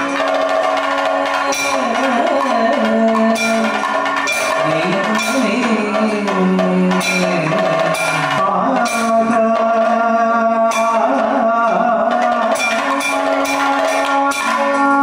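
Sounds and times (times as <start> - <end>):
man singing ornamented line: 0.0 - 15.0.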